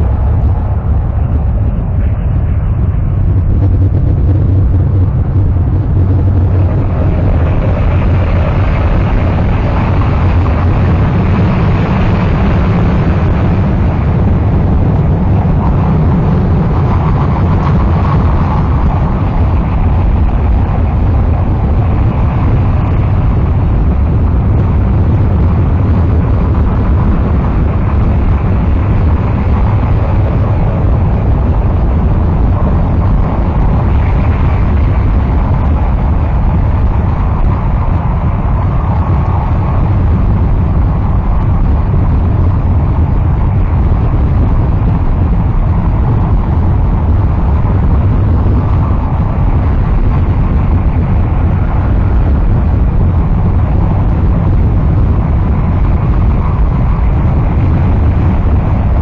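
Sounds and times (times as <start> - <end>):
harsh distorted noise music: 0.0 - 59.0.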